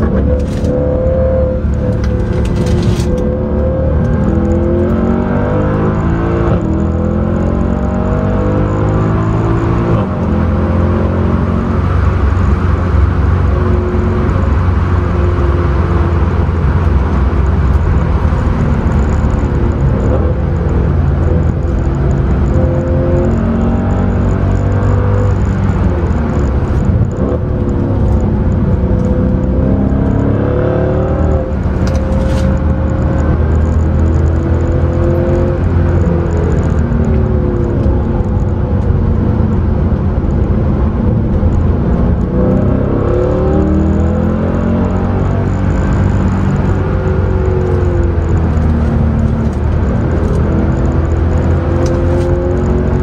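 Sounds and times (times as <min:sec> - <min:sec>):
car engine accelerating: 0:00.0 - 0:53.0
tyre and road noise: 0:00.0 - 0:53.0.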